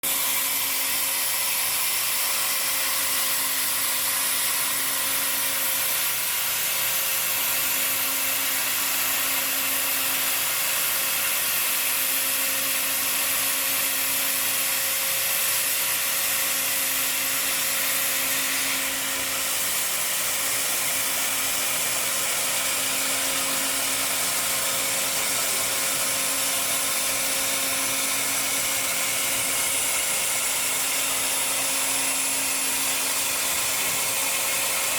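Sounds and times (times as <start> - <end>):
welding equipment hiss and whir: 0.0 - 34.9.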